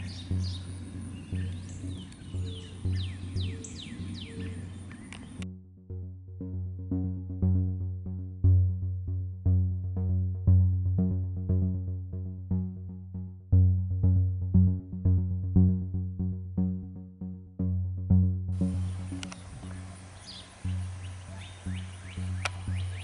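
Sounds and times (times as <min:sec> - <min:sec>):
low bass tone: 0:00.0 - 0:23.0
synthesizer melody: 0:00.0 - 0:23.0.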